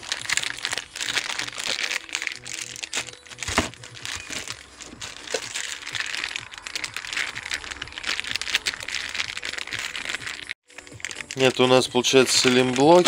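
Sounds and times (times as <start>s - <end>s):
faint music: 0.0s - 13.0s
plastic bag crinkling: 0.0s - 13.0s.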